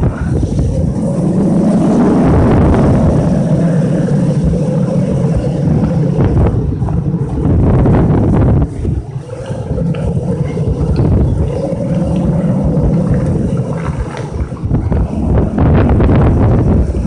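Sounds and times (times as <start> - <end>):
wind gusting against microphone: 0.0 - 17.0.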